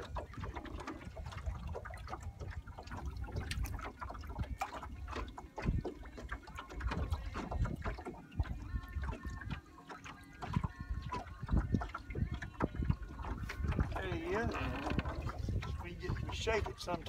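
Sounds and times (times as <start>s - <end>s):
wind buffeting microphone: 0.0s - 9.6s, 10.4s - 17.0s
waves slapping metal boat hull: 0.0s - 17.0s.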